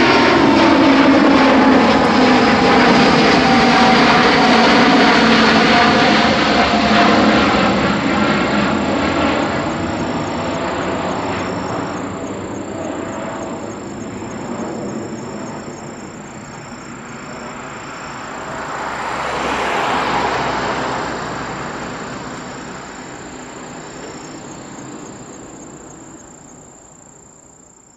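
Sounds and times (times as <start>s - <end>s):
crickets chirping: 0.0s - 27.9s
jet airliner engine: 0.0s - 27.9s.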